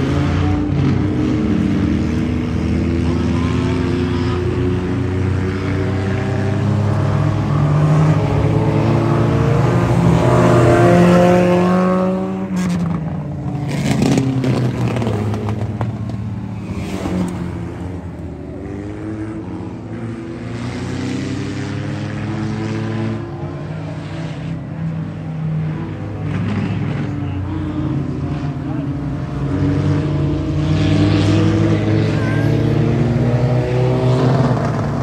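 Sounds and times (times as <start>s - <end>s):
race car engines: 0.0s - 35.0s.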